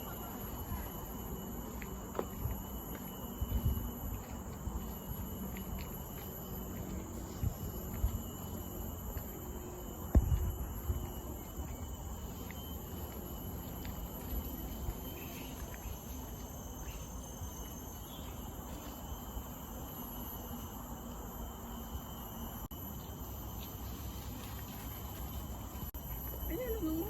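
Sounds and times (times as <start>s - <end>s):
insects singing: 0.0s - 27.0s.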